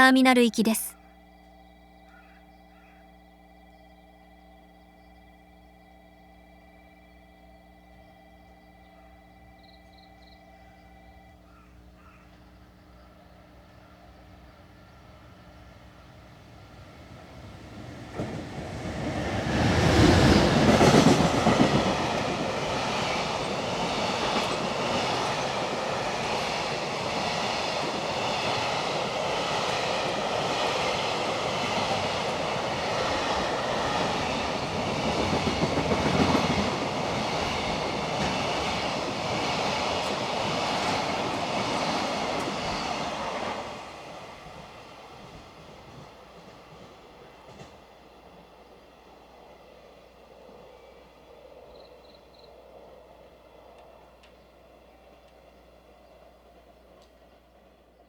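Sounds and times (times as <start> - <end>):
electric locomotive passing: 1.3 - 58.0.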